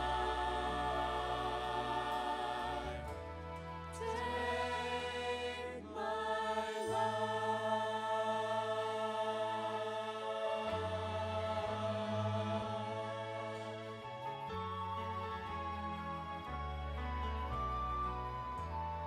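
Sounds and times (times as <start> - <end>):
choir-like held notes: 0.0 - 18.8
low bass notes: 0.0 - 19.0.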